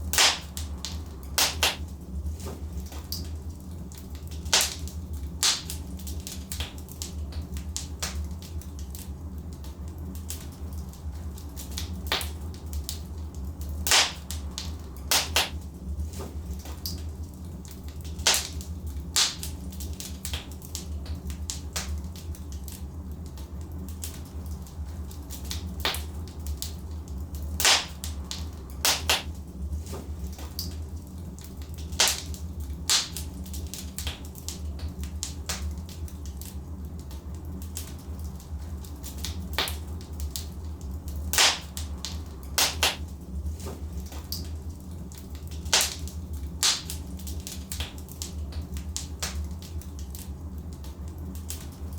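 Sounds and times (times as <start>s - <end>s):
logs crackling in a fireplace: 0.0s - 51.9s.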